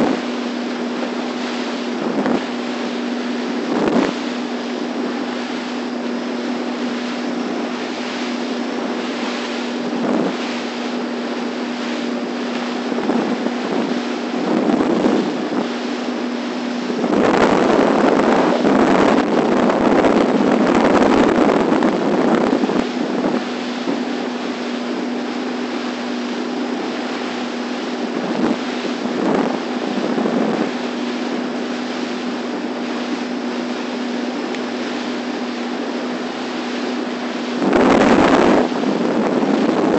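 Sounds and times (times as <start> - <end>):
boat engine humming: 0.0 - 39.9
water rushing along hull: 0.0 - 39.9
wind buffeting microphone: 0.0 - 39.9.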